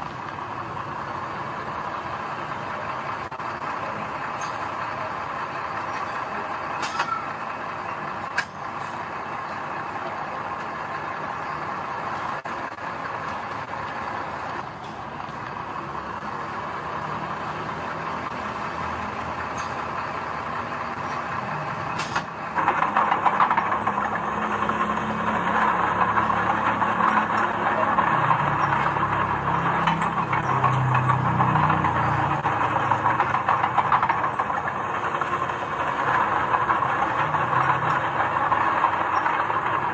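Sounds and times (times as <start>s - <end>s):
harsh mechanical noise: 0.0s - 39.9s
heavy machinery diesel engines: 0.0s - 39.9s.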